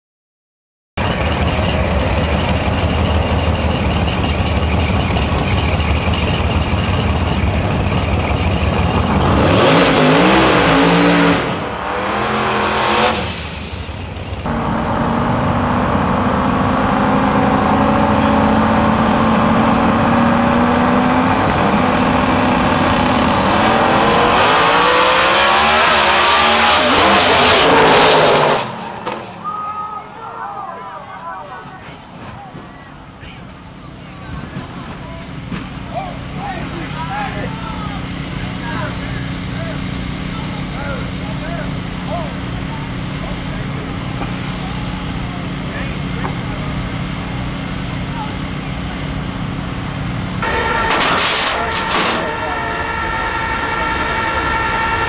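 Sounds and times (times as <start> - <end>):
drag racing engines roaring: 1.0 - 55.0.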